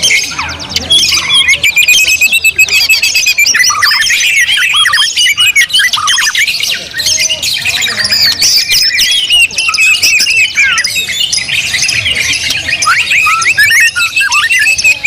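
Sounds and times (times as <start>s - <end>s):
songbirds whistling and chirping: 0.0s - 15.0s.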